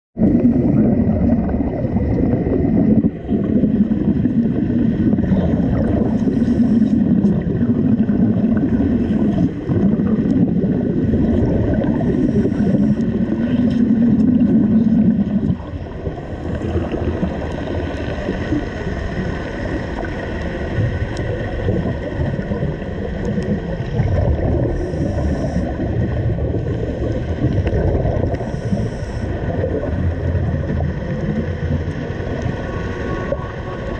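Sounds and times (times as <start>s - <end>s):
water and bubbles rumbling: 0.2s - 33.9s
underwater arc welding: 0.3s - 33.9s.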